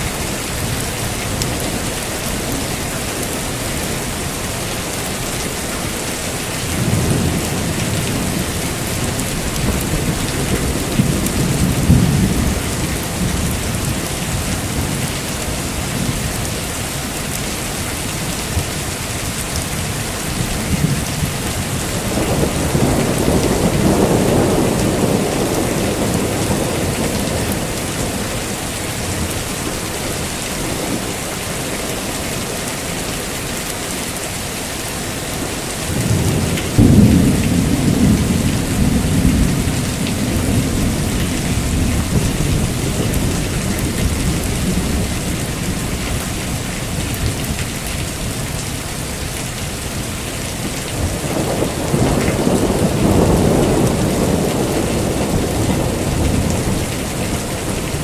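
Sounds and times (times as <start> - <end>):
heavy rain: 0.0 - 58.0
thunder rumbling: 5.8 - 32.2, 35.4 - 49.3, 49.9 - 58.0.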